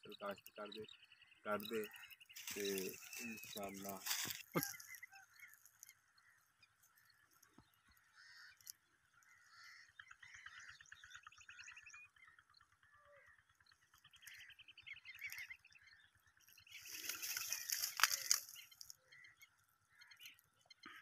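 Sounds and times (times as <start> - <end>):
faint bird calls: 0.0 - 21.0.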